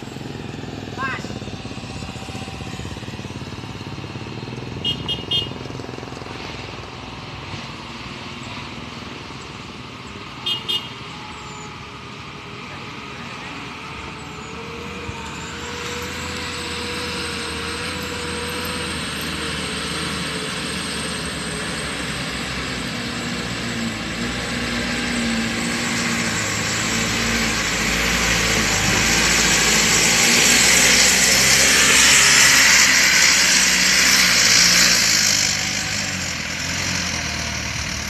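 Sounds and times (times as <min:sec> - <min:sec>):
truck diesel engine labouring: 0:00.0 - 0:38.0.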